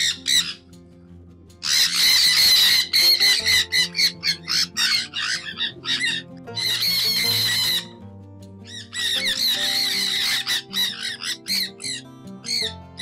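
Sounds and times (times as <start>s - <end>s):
parrots screeching: 0.0s - 0.6s, 1.6s - 8.0s, 8.6s - 13.0s
soft background music: 0.0s - 13.0s.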